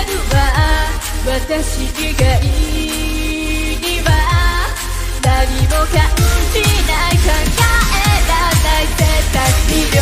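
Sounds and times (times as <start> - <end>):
electronic pop song: 0.0 - 10.0
woman singing: 0.0 - 10.0.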